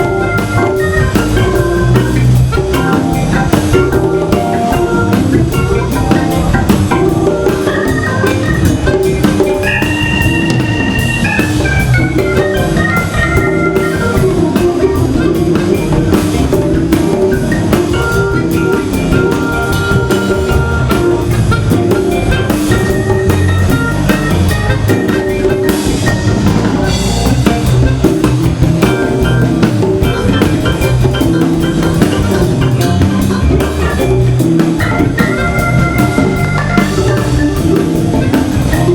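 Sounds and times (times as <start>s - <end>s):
drum kit: 0.0s - 38.9s
organ playing chords: 0.0s - 38.9s.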